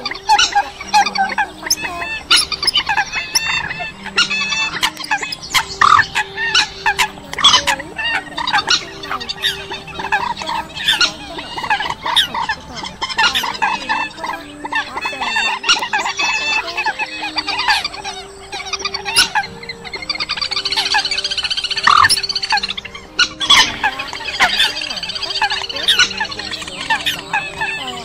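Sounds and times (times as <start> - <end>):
coot calls: 0.0 - 28.0
rail calls: 0.0 - 28.0.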